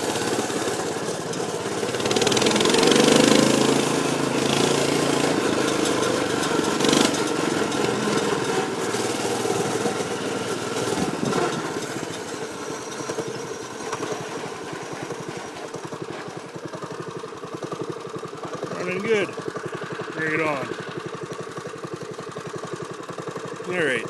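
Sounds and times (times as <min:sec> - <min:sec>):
mini bike engine running: 0:00.0 - 0:24.0.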